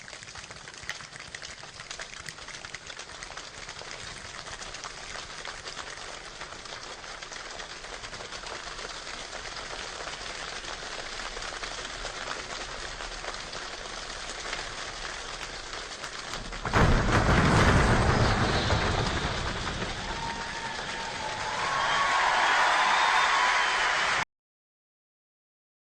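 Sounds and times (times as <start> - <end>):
rain falling: 0.0 - 24.2.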